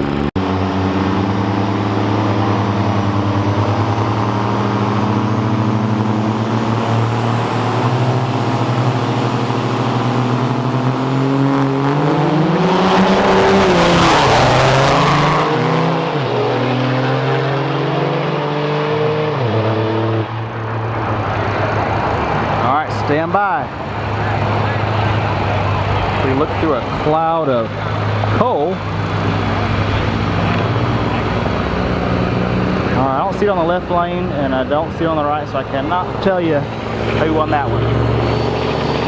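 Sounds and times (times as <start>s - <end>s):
diesel truck engines: 0.0s - 39.0s
high turbo whine: 0.0s - 39.0s.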